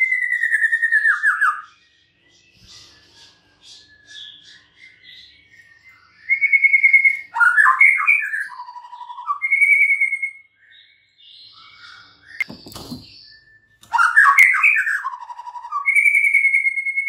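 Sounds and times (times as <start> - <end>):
bird singing whistled trills: 0.0 - 17.0.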